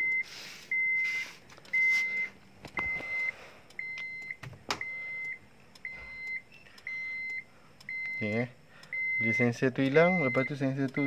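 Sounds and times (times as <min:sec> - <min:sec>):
high electronic beeps: 0:00.0 - 0:11.0.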